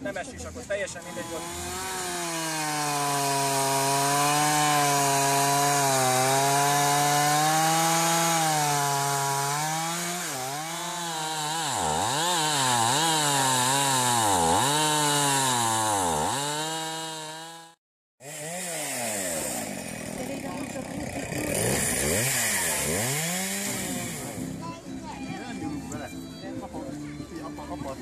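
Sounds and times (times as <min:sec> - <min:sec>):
small engine running at high speed: 0:01.0 - 0:24.7.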